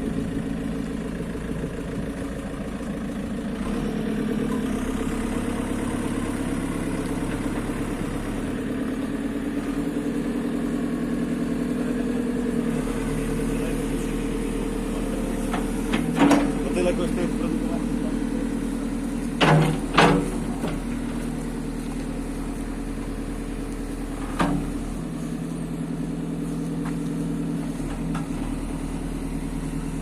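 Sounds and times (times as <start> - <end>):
diesel engine running at low revs: 0.0 - 30.0.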